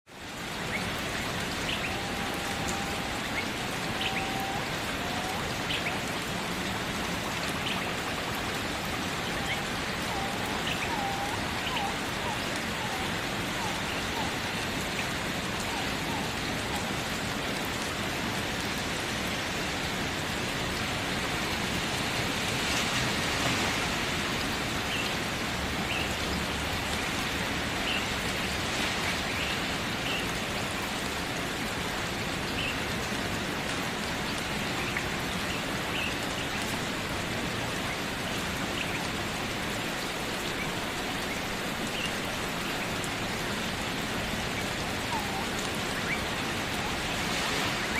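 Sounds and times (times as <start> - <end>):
steady rain falling: 0.1 - 47.9.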